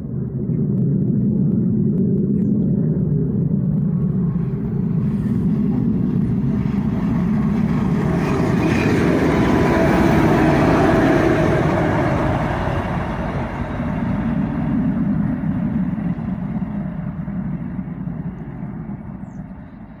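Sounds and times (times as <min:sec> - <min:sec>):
diesel locomotive engine rumble: 0:00.0 - 0:20.0
wheels on rails: 0:00.3 - 0:19.7.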